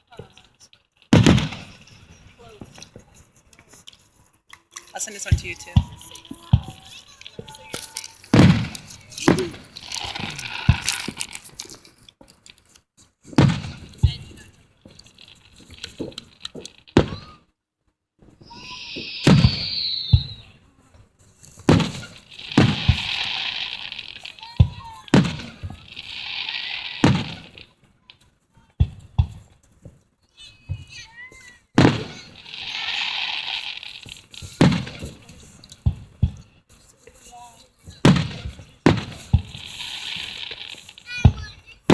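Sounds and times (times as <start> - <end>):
fireworks crackling: 0.0 - 17.5, 18.2 - 41.9
fireworks booming: 1.1 - 3.2, 4.9 - 11.8, 13.2 - 17.4, 18.2 - 27.8, 28.7 - 29.9, 30.6 - 36.6, 37.8 - 41.9.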